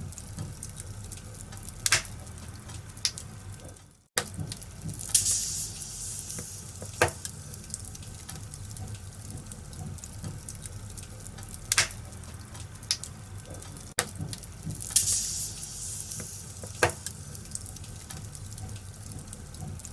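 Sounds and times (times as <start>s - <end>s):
fireplace fire crackling: 0.0s - 19.9s
loud fire snaps: 0.1s - 19.9s.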